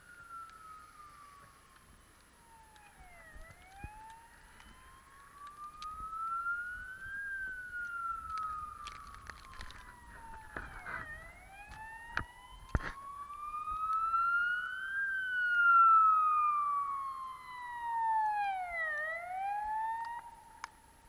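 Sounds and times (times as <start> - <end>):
emergency vehicle siren wailing: 0.0 - 21.0.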